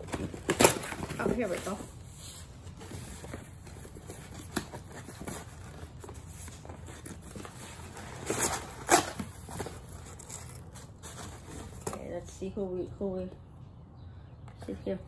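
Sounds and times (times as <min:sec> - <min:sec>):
cardboard flaps scraping and rustling: 0:00.0 - 0:12.1.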